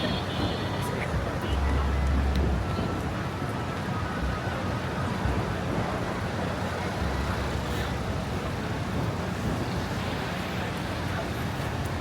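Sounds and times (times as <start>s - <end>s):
cars passing: 0.0s - 12.0s
low traffic rumble: 0.0s - 12.0s
tyres on wet snowy road: 0.0s - 12.0s.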